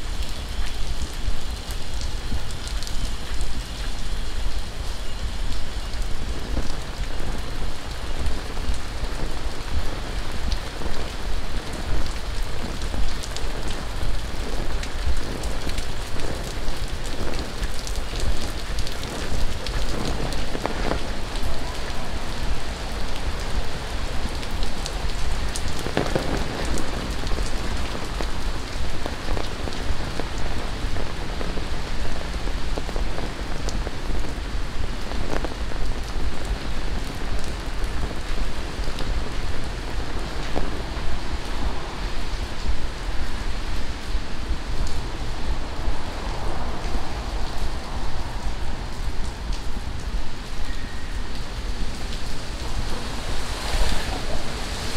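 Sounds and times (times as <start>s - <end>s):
rain splattering on hard surfaces: 0.0s - 54.9s.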